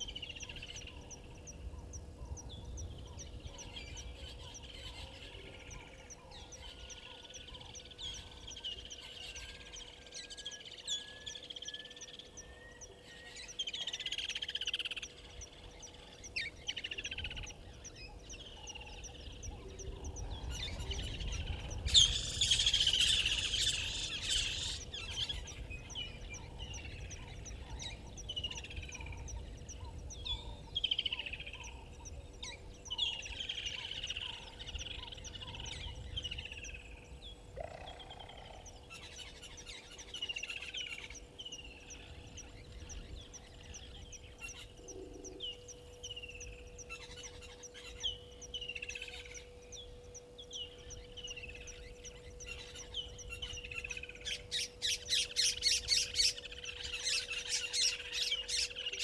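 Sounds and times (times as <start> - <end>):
wild birds chirping and calling: 0.0 - 59.0.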